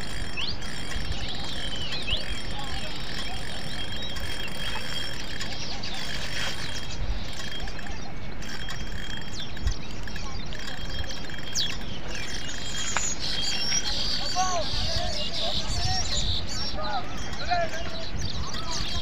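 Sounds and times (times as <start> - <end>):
faint bird chirps: 0.0 - 19.0
outdoor background noise: 0.0 - 19.0.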